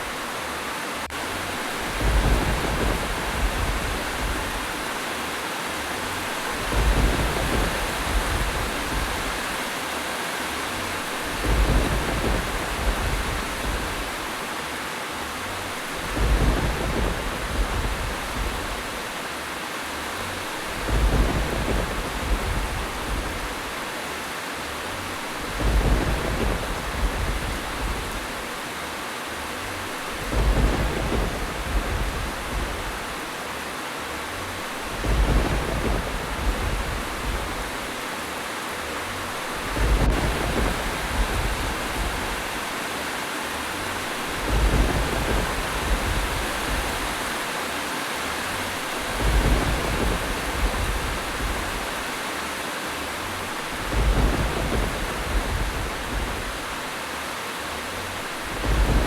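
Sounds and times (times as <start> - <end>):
rain hiss: 0.0 - 59.0
thunder rumble: 1.1 - 5.1, 5.9 - 14.6, 15.4 - 19.2, 19.9 - 24.0, 24.8 - 28.6, 29.5 - 38.2, 38.8 - 42.9, 43.5 - 47.6, 48.3 - 57.0, 57.8 - 59.0.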